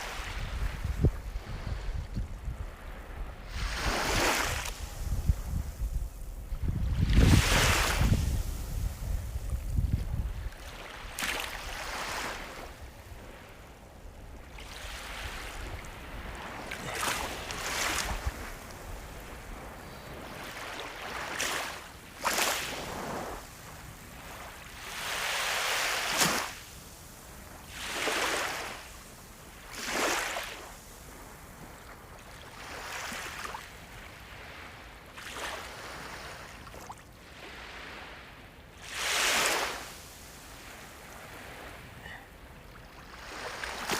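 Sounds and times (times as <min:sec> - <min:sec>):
sea waves washing in: 0:00.0 - 0:43.9.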